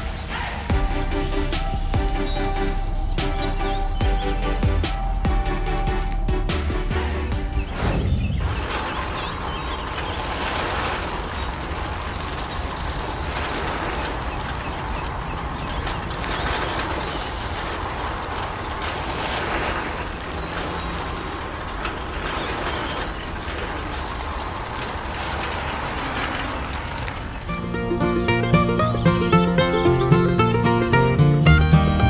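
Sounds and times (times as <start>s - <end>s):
grain tumbling and pouring: 0.0s - 28.0s
hand-cranked drum ratcheting rattle: 0.3s - 7.6s, 8.4s - 28.6s.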